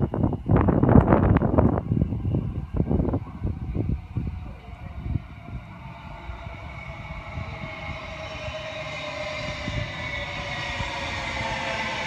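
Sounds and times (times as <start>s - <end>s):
electric train whine: 0.0s - 12.0s
low train rumble: 0.0s - 12.0s.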